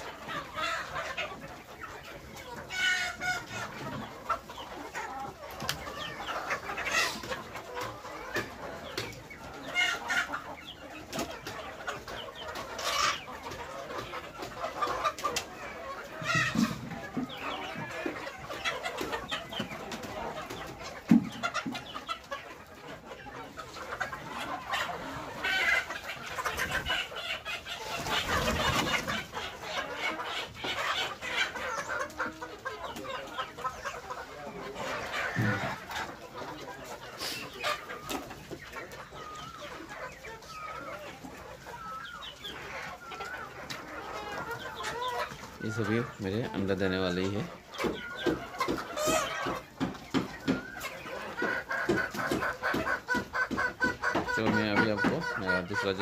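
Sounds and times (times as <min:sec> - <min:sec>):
hens clucking: 0:00.0 - 0:56.0.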